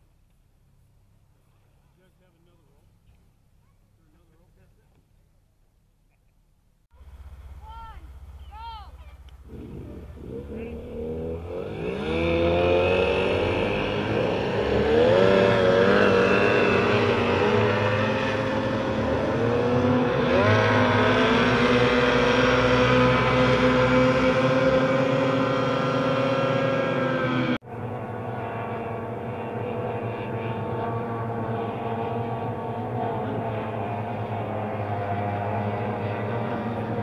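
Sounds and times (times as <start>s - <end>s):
racing boat engines revving: 6.9s - 37.0s.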